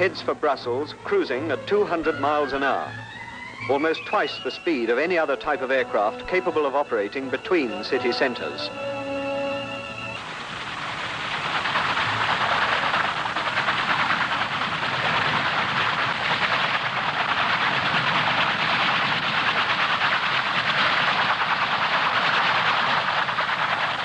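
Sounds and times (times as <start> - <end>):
rotor tip jets roaring: 0.0 - 24.0.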